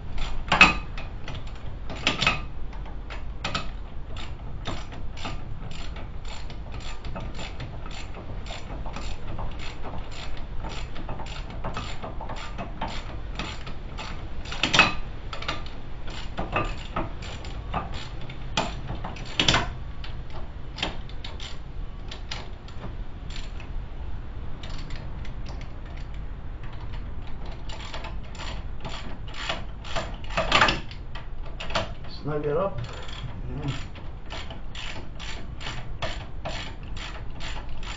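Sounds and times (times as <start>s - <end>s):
ratchet wrench clicking: 3.1s - 22.5s, 23.3s - 23.6s, 24.6s - 26.1s, 26.7s - 32.0s, 32.8s - 37.9s.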